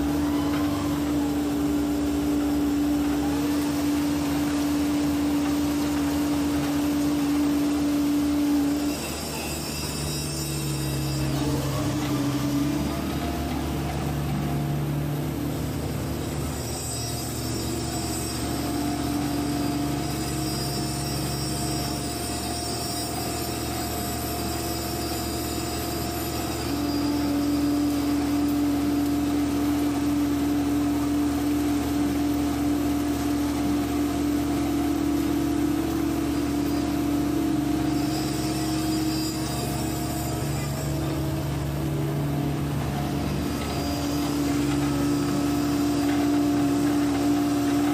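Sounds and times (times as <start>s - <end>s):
steady engine tone: 0.0s - 23.7s, 25.3s - 47.9s
excavator diesel engine running: 0.0s - 47.9s.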